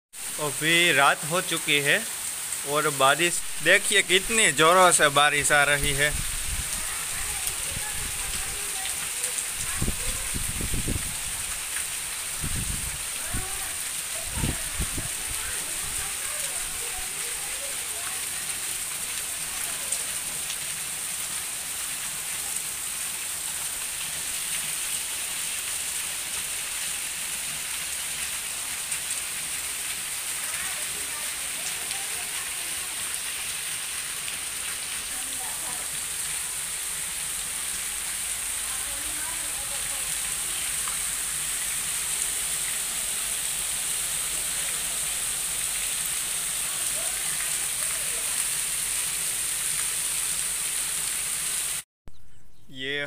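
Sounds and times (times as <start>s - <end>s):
heavy rain hissing: 0.2s - 51.8s
water pouring off roof: 0.2s - 51.8s.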